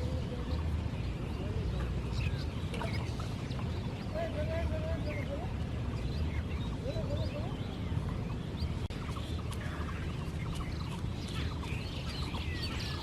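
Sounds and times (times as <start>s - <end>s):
bird chirps and calls: 0.0s - 13.0s
steady low rumble: 0.0s - 13.0s.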